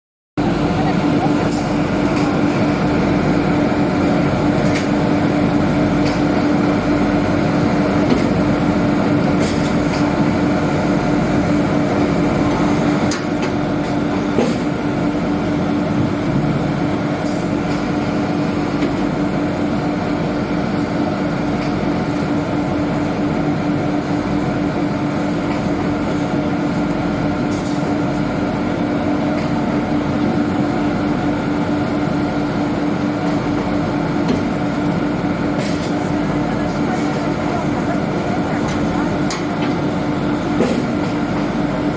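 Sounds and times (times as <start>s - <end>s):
baler machine humming: 0.4s - 41.9s.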